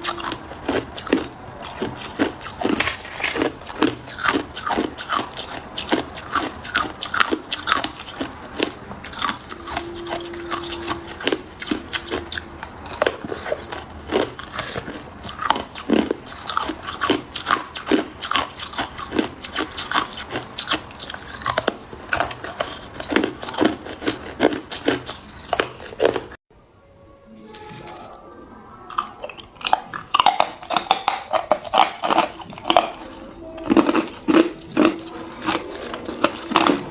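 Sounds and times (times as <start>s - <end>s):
ice cubes being chewed: 0.0s - 26.4s, 28.9s - 36.9s.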